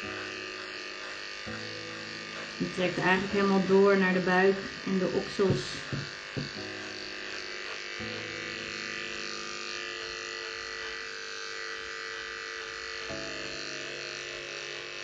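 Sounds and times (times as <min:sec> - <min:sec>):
electric clipper buzzing: 0:00.0 - 0:15.0.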